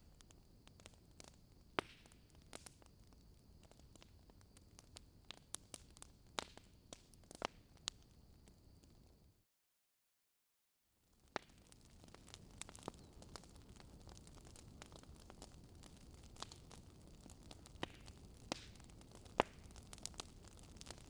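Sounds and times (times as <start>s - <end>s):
campfire crackling: 0.0s - 9.3s, 11.0s - 21.0s.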